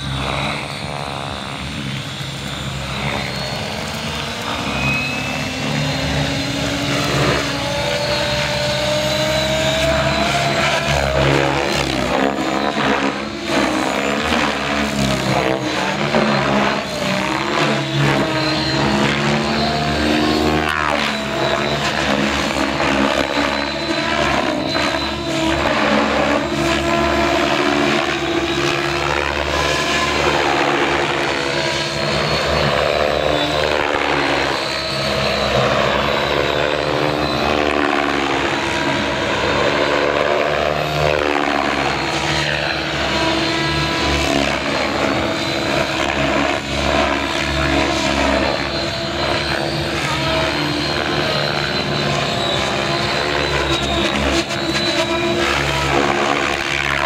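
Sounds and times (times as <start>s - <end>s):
rc helicopter rotor whine: 0.0s - 57.0s.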